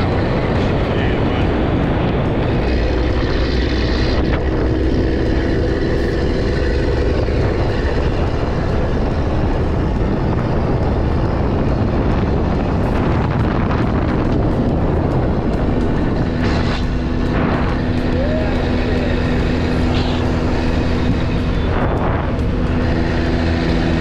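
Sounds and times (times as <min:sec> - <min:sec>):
road and wind noise: 0:00.0 - 0:24.0
vehicle engine running: 0:00.0 - 0:24.0.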